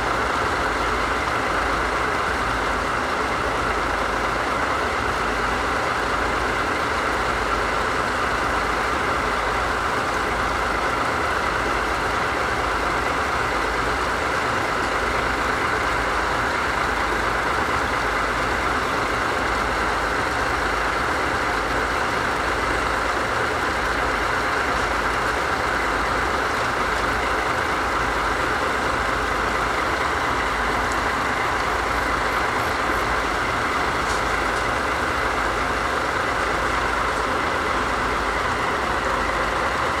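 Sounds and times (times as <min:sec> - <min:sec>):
locomotive diesel engines idling: 0:00.0 - 0:40.0.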